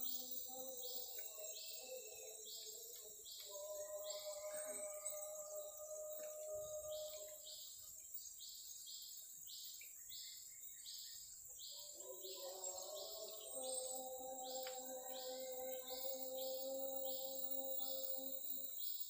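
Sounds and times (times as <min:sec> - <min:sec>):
insects buzzing and chirping: 0:00.0 - 0:19.0.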